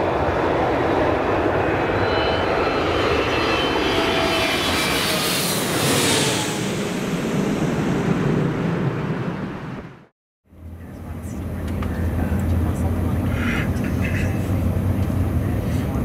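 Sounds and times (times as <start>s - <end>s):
faint engine whine: 0.0s - 16.0s
jet airliner roaring overhead: 0.0s - 16.0s.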